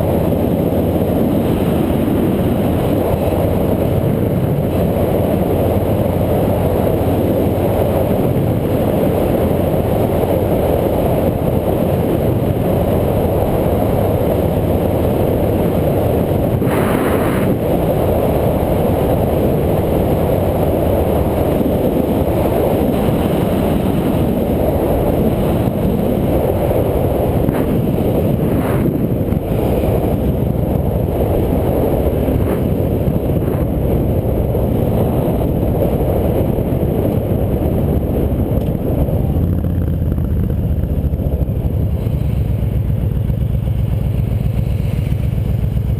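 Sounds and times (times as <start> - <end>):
wind and road noise: 0.0 - 45.9.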